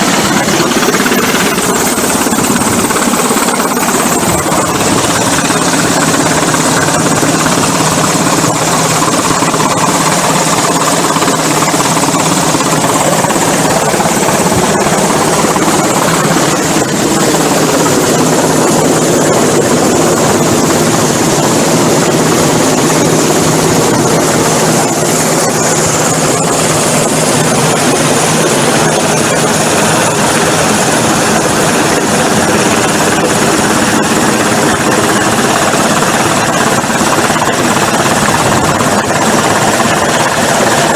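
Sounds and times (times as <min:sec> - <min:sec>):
helicopter rotor and turbine running: 0:00.0 - 0:40.9.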